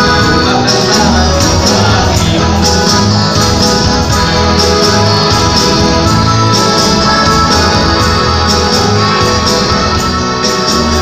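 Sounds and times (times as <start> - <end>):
electronic organ chords: 0.0 - 11.0
steady bass beat: 0.0 - 11.0.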